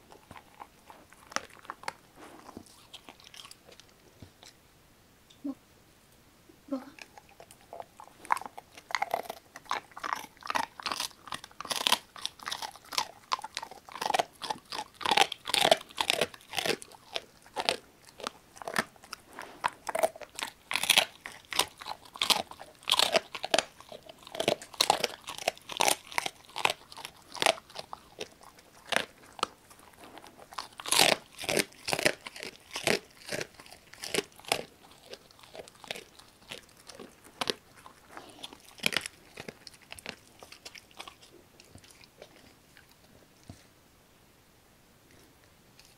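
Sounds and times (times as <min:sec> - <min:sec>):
dog crunching a bone: 0:00.0 - 0:04.6, 0:07.0 - 0:43.7.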